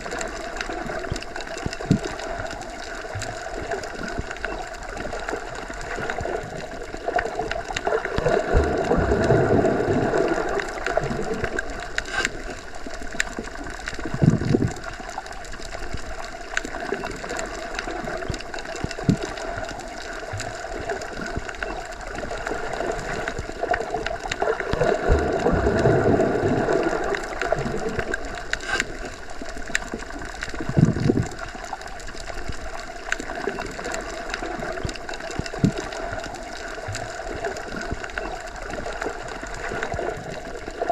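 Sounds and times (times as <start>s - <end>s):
muffled underwater rush: 0.0s - 40.9s.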